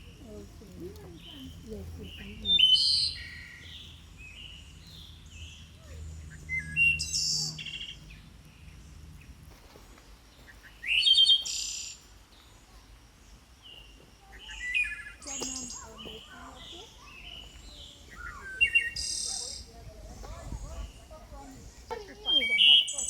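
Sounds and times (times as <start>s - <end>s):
birds calling and chirping: 0.0s - 23.0s.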